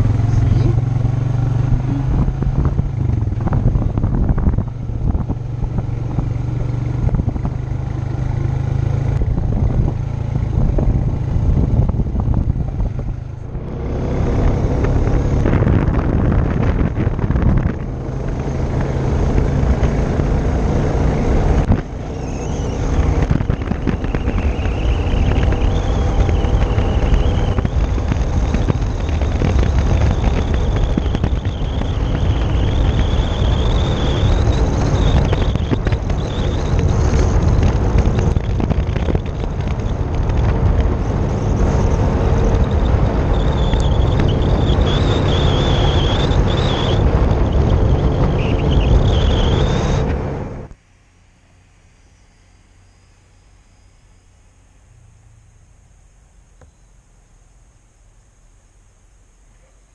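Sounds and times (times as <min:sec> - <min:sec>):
atv engine running: 0:00.0 - 0:57.8.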